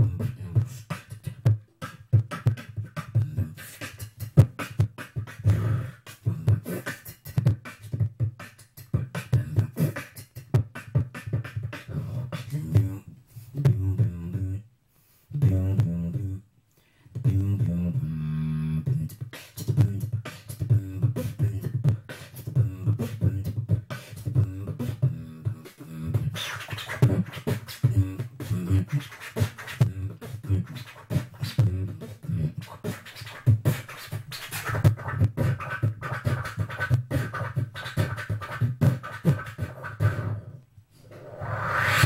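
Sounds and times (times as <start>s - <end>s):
beatboxing into microphone: 0.0s - 14.7s, 15.3s - 16.4s, 17.1s - 42.0s.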